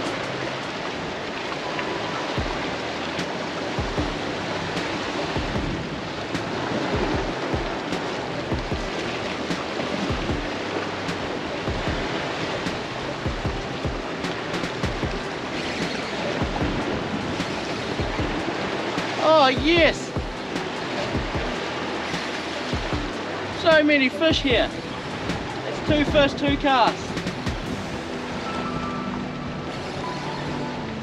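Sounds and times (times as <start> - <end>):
background music with bass: 0.0 - 1.1, 2.2 - 31.0.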